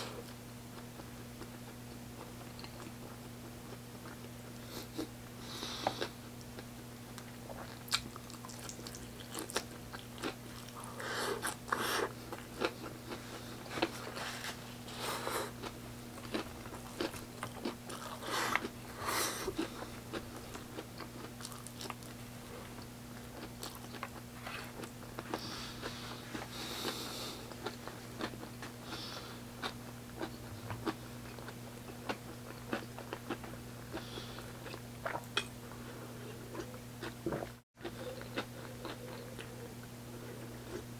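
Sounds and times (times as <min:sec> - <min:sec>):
steady low hum: 0:00.0 - 0:40.9
person chewing crunchy food: 0:00.2 - 0:40.9.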